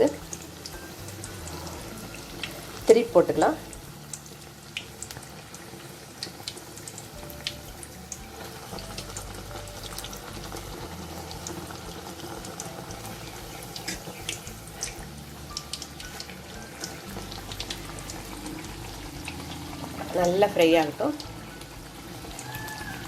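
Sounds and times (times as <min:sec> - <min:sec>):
food sizzling in hot oil: 0:00.0 - 0:23.0
oil crackling and popping: 0:00.0 - 0:23.0.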